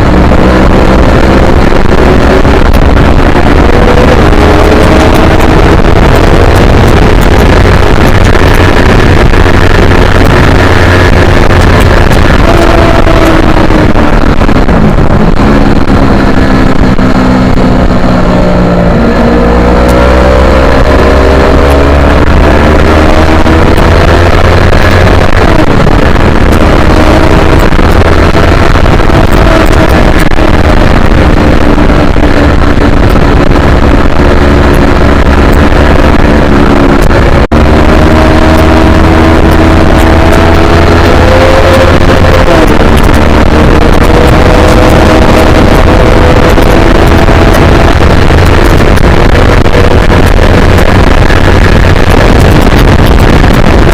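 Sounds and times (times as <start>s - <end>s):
motorcycle engine at speed: 0.0s - 53.9s
wind buffeting microphone: 0.0s - 53.9s.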